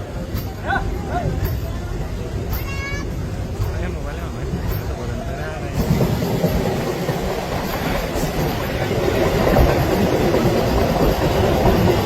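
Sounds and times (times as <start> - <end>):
train running on rails: 0.0 - 12.0.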